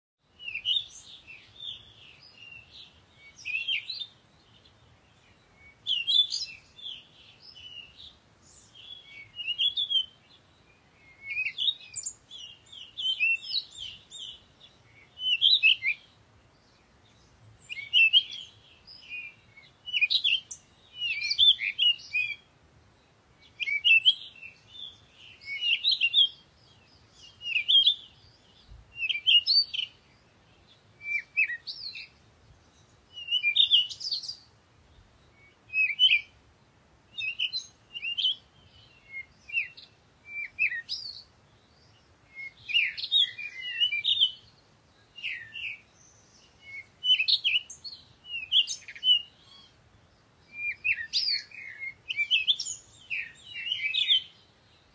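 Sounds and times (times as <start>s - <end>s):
birds chirping and trilling: 0.3s - 54.9s.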